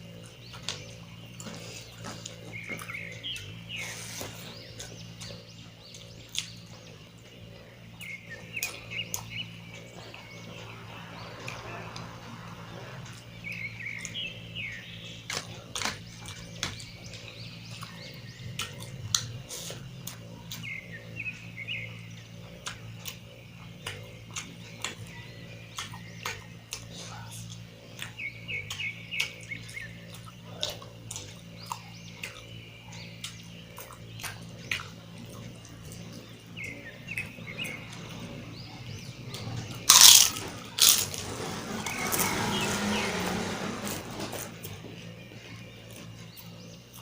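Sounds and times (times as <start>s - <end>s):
bird chirps: 0.0s - 47.0s.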